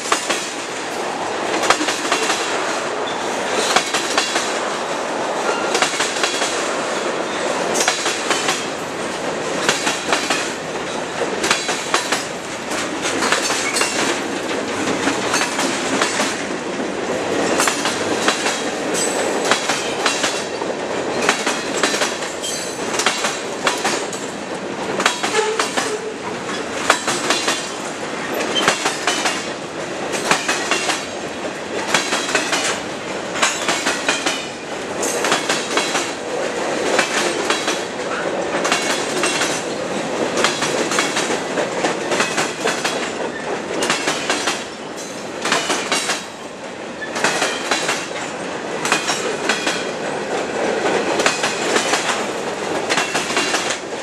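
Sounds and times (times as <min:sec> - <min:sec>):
freight train wheels rumbling: 0:00.0 - 0:54.0
wheels clacking over rail joints: 0:00.0 - 0:54.0.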